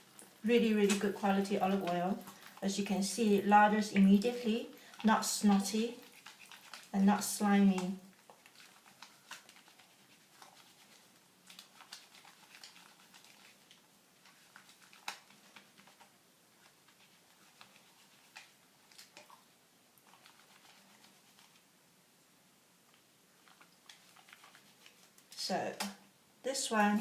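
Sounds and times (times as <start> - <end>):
hands lathering wet soap: 0.0 - 21.7, 23.4 - 26.0.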